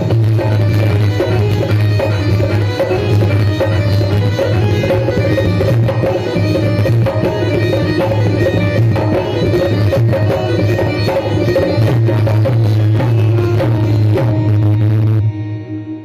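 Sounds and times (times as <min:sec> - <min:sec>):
keyboard music: 0:00.0 - 0:16.0
tabla-style drumming: 0:00.0 - 0:16.0.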